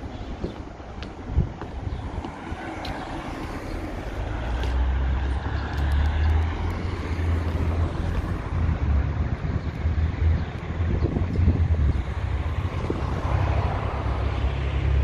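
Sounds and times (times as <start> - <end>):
wind buffeting microphone: 0.0 - 15.0
car passing: 1.9 - 15.0.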